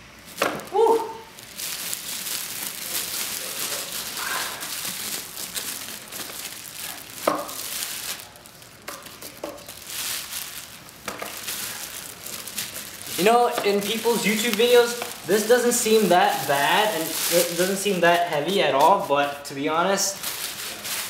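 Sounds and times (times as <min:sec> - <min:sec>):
plastic wrap crinkling: 0:00.0 - 0:21.0
sharp plastic crackle: 0:00.0 - 0:21.0.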